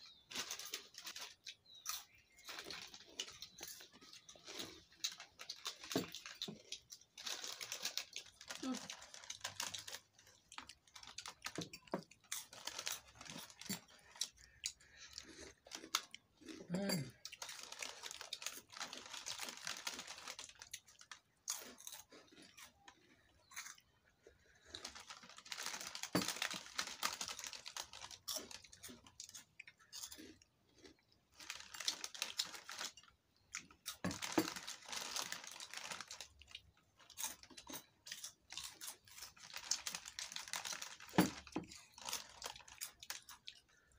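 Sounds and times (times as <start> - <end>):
plastic sachets crinkling: 0.1 - 16.2, 17.2 - 22.9, 24.4 - 30.2, 30.8 - 43.9
chewing: 0.1 - 43.9.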